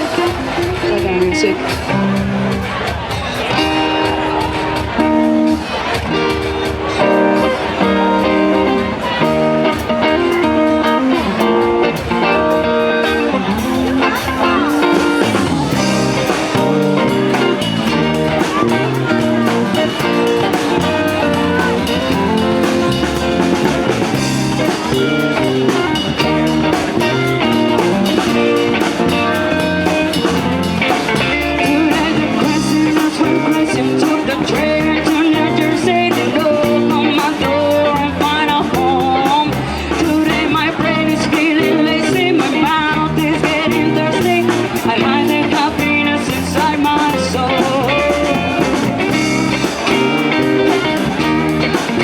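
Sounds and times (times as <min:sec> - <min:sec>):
drum kit beat: 0:00.0 - 0:52.0
electric guitar: 0:00.0 - 0:52.0
live reggae band: 0:00.0 - 0:52.0.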